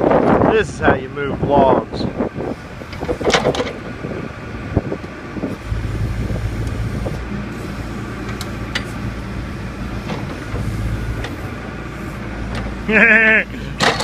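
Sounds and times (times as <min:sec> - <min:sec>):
diesel backhoe engine running: 0:00.0 - 0:14.0.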